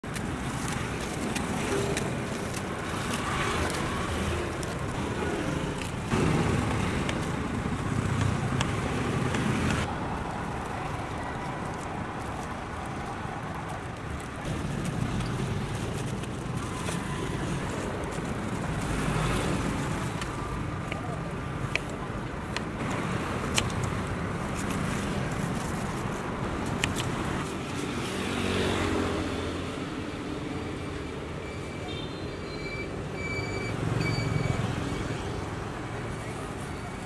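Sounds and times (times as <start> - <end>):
street traffic: 0.0 - 37.0.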